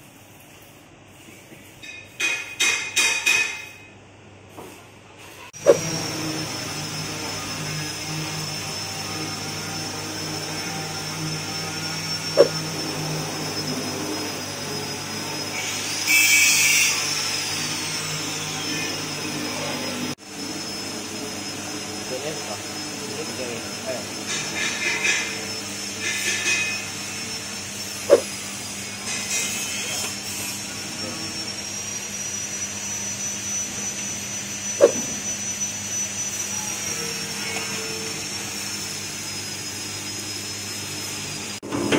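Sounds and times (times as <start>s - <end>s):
drum dryer humming and whining: 4.6s - 41.9s.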